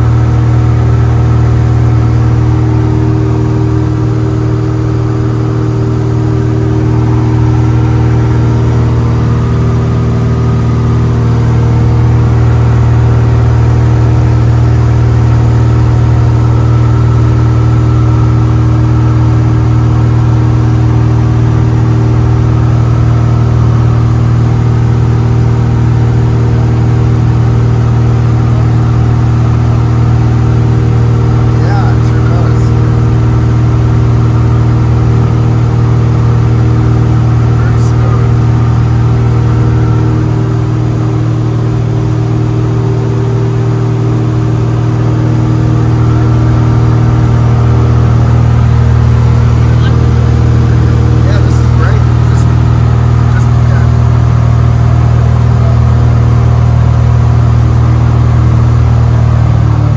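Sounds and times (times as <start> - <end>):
airplane engine and propeller drone: 0.0 - 59.9.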